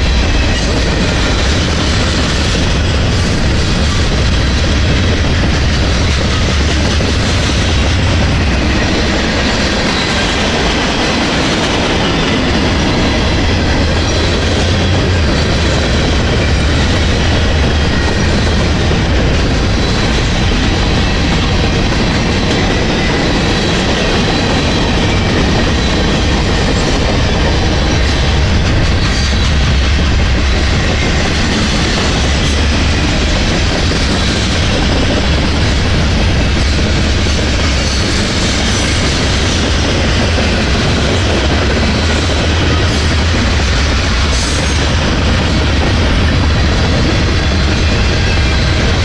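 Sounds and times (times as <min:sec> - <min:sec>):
steel wheels rumbling on rails: 0:00.0 - 0:49.0.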